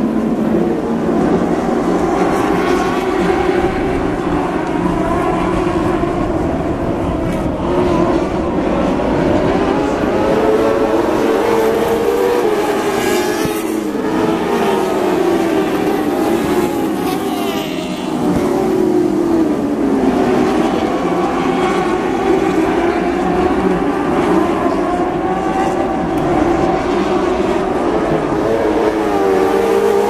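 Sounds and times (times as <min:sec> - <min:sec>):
race car engines high-revving: 0:00.0 - 0:30.0.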